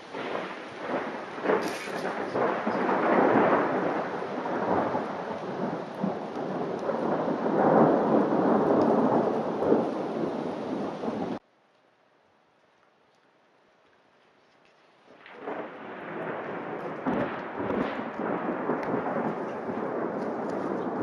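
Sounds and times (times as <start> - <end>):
rolling thunder: 0.0 - 11.4, 15.2 - 21.0
heavy rain: 0.0 - 11.5, 15.0 - 21.0.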